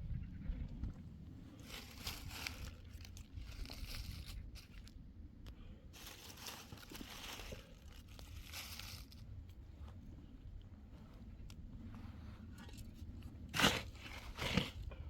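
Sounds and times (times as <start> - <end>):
steady low rumble: 0.0 - 15.0
crunching and crinkling: 0.9 - 15.0.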